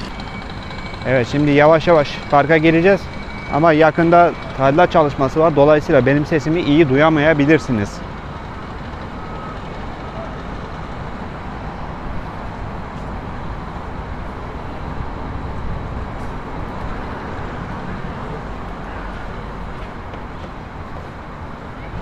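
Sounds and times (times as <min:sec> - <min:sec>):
low rumble of passing traffic: 0:00.0 - 0:22.0.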